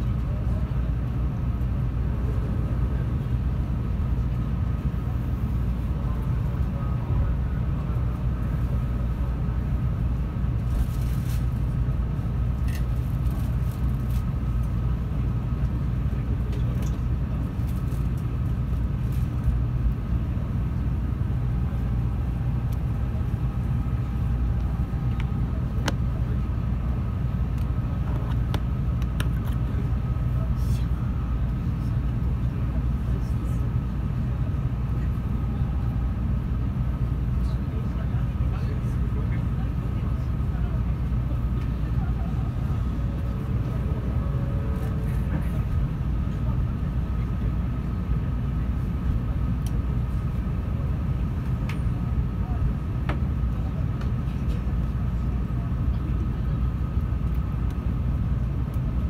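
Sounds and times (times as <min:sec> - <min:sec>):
low hum inside train: 0:00.0 - 0:59.0.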